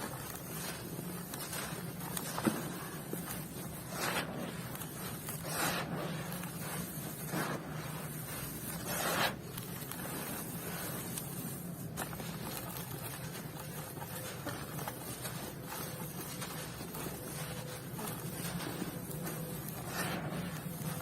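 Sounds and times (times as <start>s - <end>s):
dry clumps crumbling: 0.0s - 21.0s
faint crackles: 0.0s - 21.0s
steady low hum: 0.0s - 21.0s.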